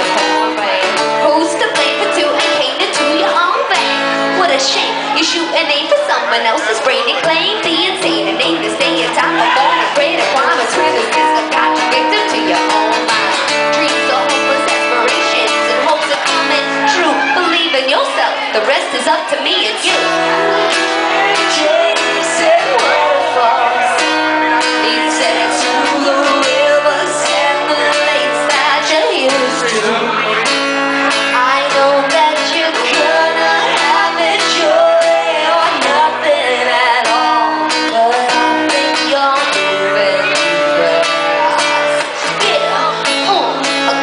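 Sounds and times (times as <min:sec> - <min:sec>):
person singing: 0:00.0 - 0:18.0, 0:19.6 - 0:44.0
strummed acoustic guitar: 0:00.0 - 0:44.0.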